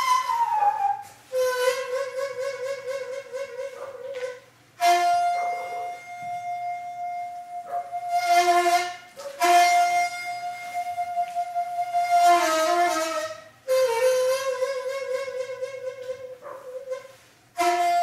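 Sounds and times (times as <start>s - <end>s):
bamboo flute long notes: 0.0s - 18.0s.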